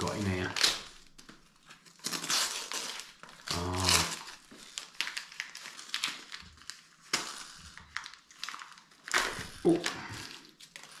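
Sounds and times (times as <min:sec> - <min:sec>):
wrapping paper crinkling and tearing: 0:00.0 - 0:11.0.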